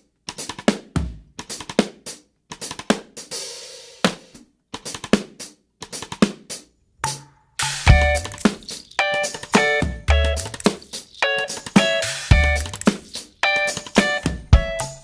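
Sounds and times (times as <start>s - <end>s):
drum kit rock beat: 0.0s - 15.0s.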